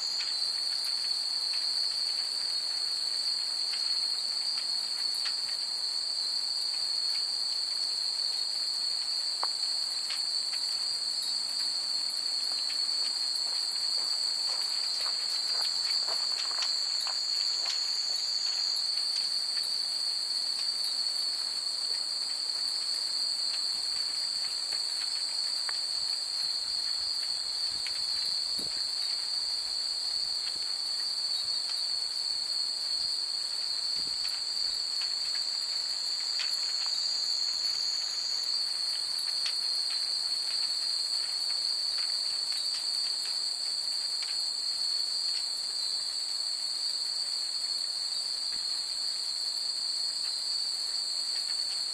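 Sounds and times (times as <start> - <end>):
shrill chorus of night insects: 0.0 - 51.9.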